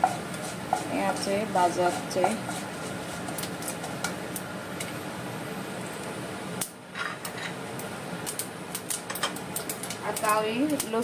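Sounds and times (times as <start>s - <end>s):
seeds sizzling in hot oil: 0.0s - 11.0s.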